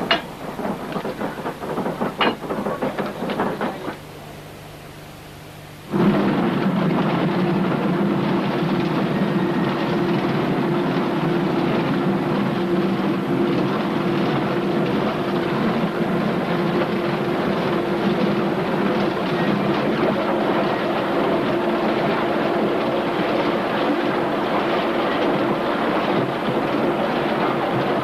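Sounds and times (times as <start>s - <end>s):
mining machinery rattling: 0.0s - 4.1s, 5.9s - 28.0s.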